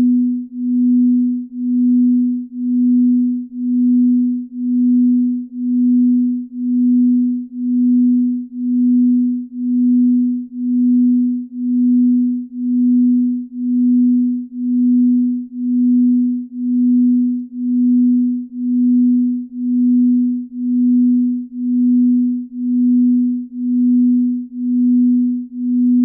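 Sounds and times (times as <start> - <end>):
pulsing low pure tone: 0.0 - 26.0.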